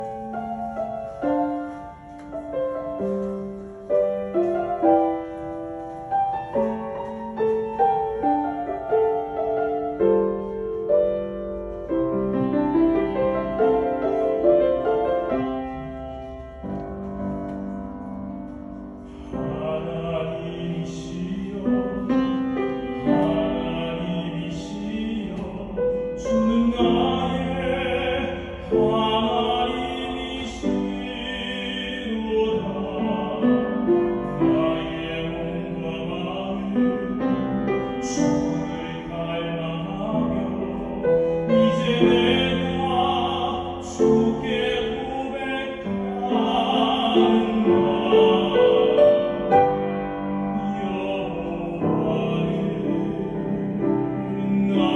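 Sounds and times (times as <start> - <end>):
piano accompaniment: 0.0 - 54.9.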